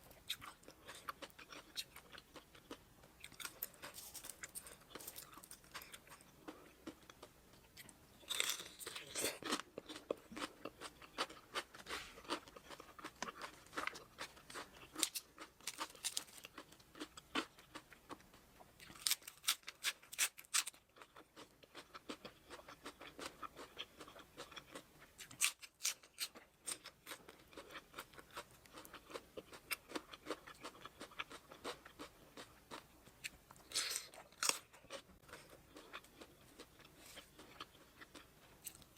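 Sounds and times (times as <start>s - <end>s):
chewing crunchy food: 0.0s - 38.9s.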